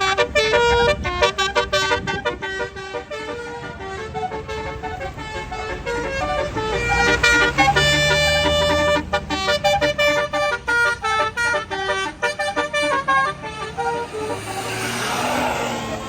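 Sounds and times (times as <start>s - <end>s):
multi-tone bus horn melody: 0.0s - 16.0s.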